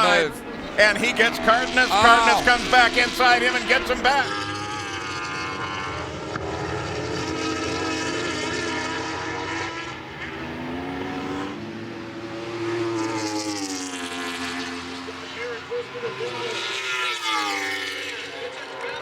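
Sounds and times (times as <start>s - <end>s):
motorbike engines at high revs: 0.0s - 19.0s.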